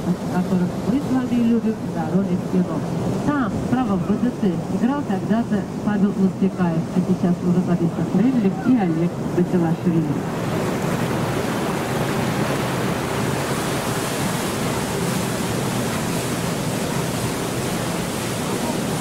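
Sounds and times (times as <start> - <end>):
faint boat engine hum: 0.0 - 19.0
wind and water rushing: 0.0 - 19.0.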